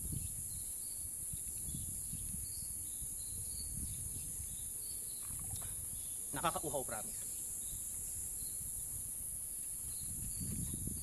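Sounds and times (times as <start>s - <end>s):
high-pitched insect chorus: 0.0s - 11.0s
faint chirps: 0.2s - 10.8s.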